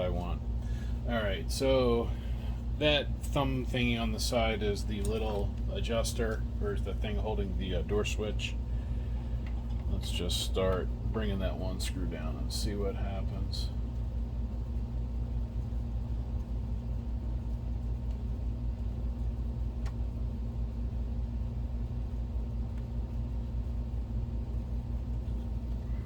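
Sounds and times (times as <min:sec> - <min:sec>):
projector cooling fans humming: 0:00.0 - 0:26.0.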